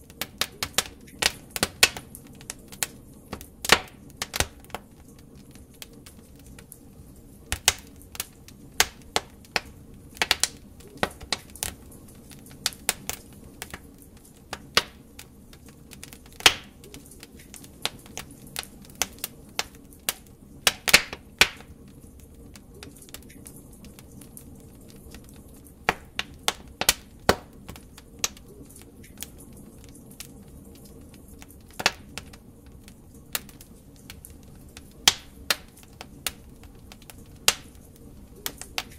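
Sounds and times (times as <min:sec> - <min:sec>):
fireplace fire crackling and popping: 0:00.0 - 0:38.9
low rumble of flame: 0:00.0 - 0:38.9.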